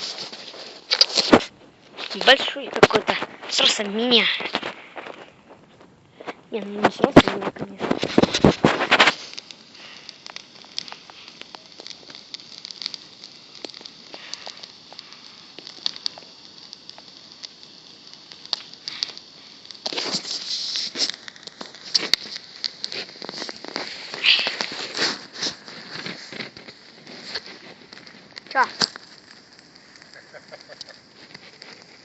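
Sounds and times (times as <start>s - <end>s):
rustling noise: 0.0s - 15.0s, 18.4s - 32.0s
campfire wood crackling: 0.0s - 32.0s.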